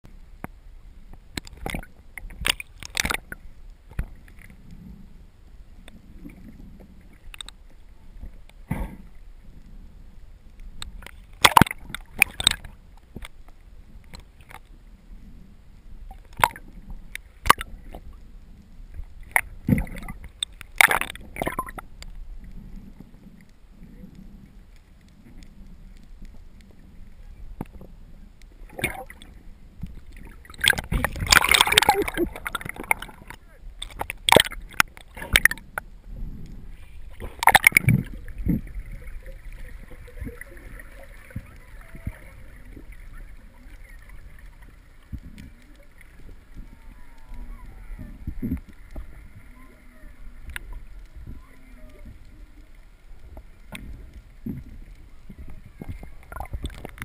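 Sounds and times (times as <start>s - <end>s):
underwater rumble: 0.0s - 57.0s.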